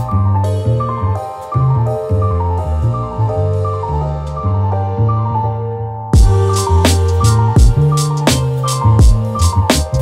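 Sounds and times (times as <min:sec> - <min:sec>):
low bass line: 0:00.0 - 0:10.0
sustained chords: 0:00.0 - 0:10.0.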